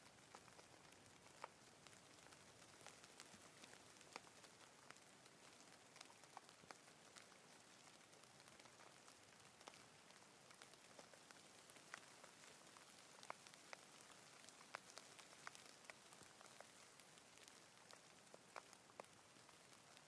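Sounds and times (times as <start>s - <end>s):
light rain hiss: 0.0s - 20.0s.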